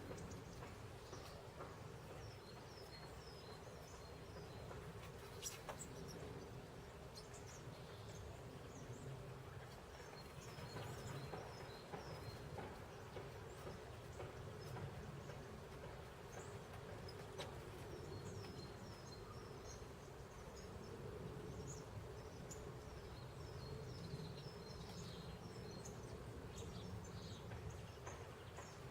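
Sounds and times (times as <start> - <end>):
songbirds calling: 0.0 - 28.9.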